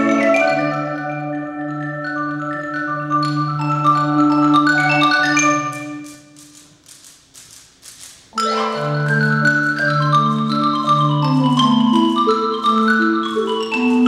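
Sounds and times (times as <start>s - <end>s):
mallet percussion ensemble: 0.0s - 14.0s.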